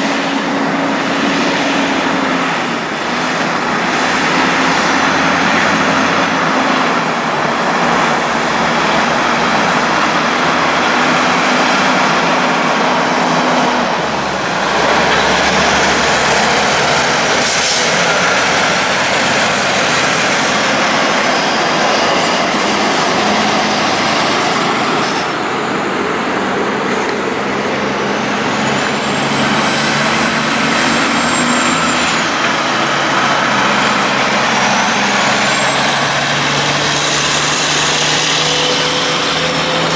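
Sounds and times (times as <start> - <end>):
diesel truck engines droning: 0.0 - 39.9.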